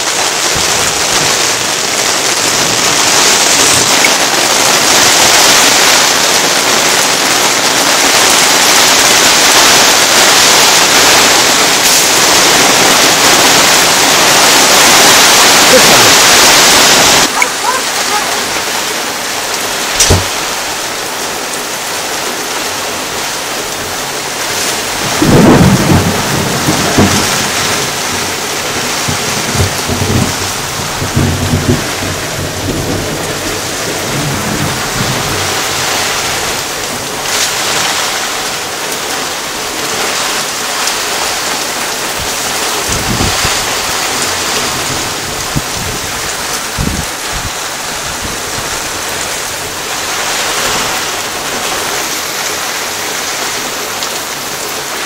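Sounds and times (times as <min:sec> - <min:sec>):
thunder rumbling: 0:00.0 - 0:21.1, 0:23.0 - 0:52.6
steady rain falling: 0:00.0 - 0:55.0.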